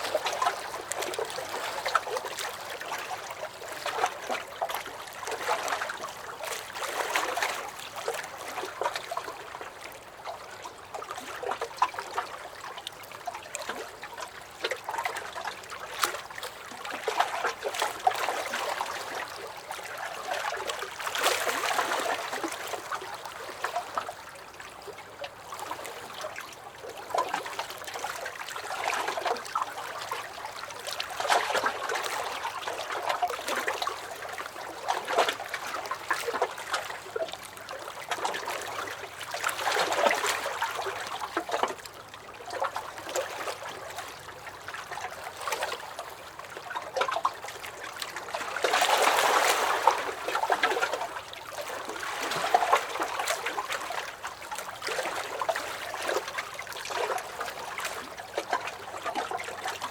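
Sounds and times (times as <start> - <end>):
waves lapping against a dock: 0.0 - 59.9.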